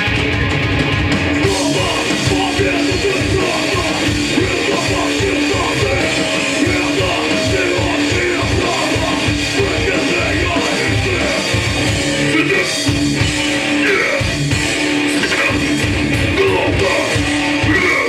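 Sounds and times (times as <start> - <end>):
distorted electric guitar: 0.0 - 18.0
fast drum beat: 0.0 - 18.0.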